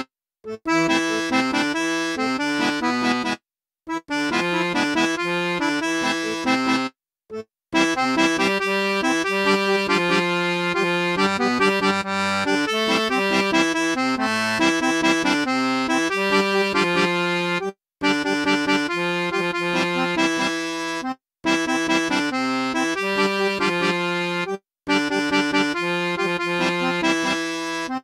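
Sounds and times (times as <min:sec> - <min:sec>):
button accordion playing: 0:00.0 - 0:28.0.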